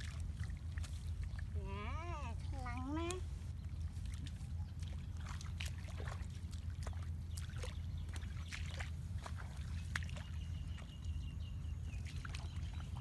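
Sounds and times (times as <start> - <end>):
feet wading through muddy water: 0.0 - 13.0
steady low rumble: 0.0 - 13.0.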